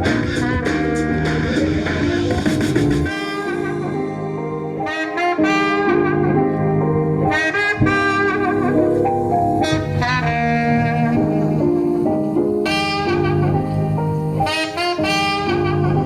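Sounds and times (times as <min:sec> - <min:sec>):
jazz with saxophone lead: 0:00.0 - 0:16.0.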